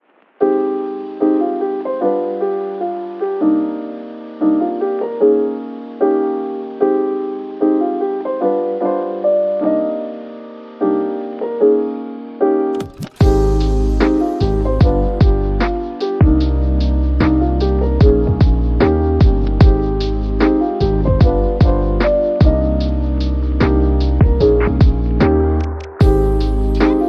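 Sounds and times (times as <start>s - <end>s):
slow piano music: 0.4s - 27.0s.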